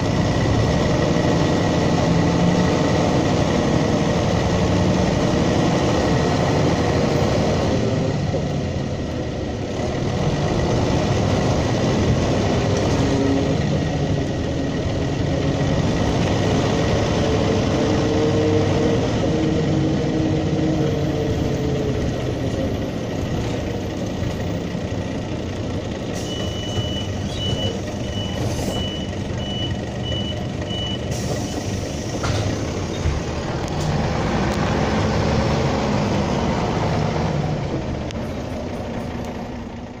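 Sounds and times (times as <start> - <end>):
diesel bus engine running: 0.0 - 40.0.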